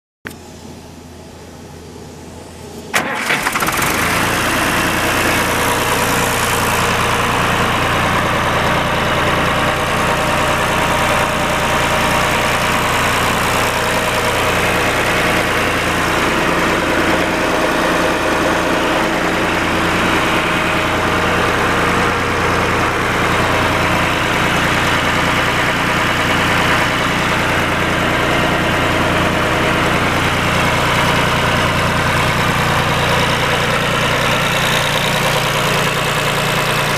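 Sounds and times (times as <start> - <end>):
tractor engine starting and idling: 0.3 - 36.9.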